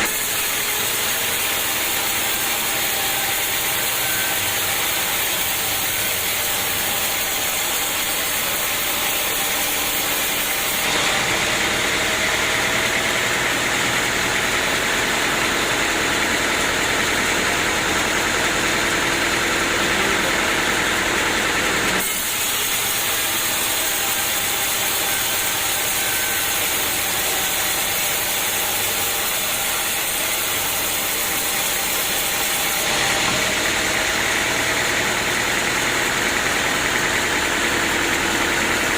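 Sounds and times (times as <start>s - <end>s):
sawmill engine and machine noise: 0.0s - 38.9s.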